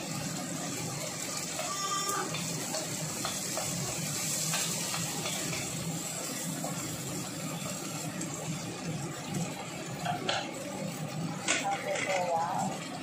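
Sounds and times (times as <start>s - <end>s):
gas stove hissing: 0.0s - 13.0s
range hood running: 0.0s - 13.0s.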